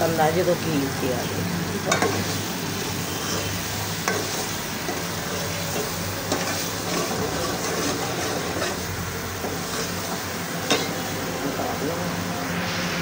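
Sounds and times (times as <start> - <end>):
curry sizzling in a metal pot: 0.0 - 13.0.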